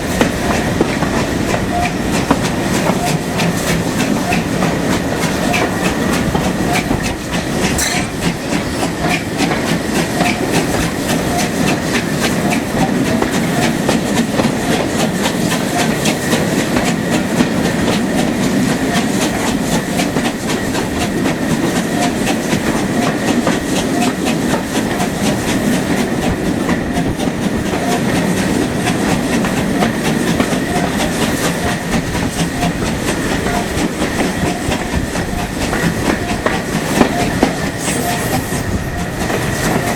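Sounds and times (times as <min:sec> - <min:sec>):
train rumble: 0:00.0 - 0:39.9
wheels clicking over rail joints: 0:00.0 - 0:39.9.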